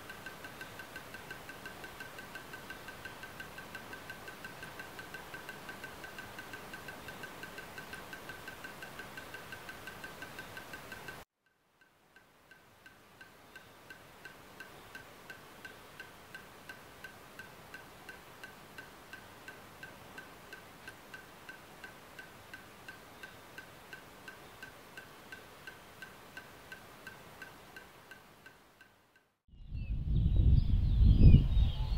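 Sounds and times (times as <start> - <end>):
steady hiss: 0.0 - 11.2, 11.8 - 29.2
faint high ticking: 0.0 - 29.4.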